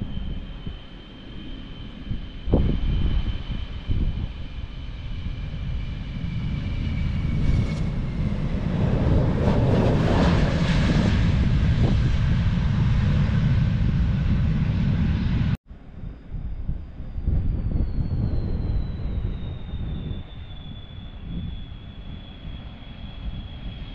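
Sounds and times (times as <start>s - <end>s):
high jet whine falling in pitch: 0.0s - 23.9s
jet aircraft engine rumble: 0.0s - 23.9s.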